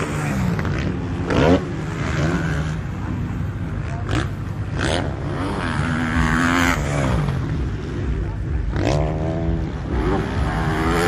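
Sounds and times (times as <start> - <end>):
motocross bikes revving: 0.0 - 11.0.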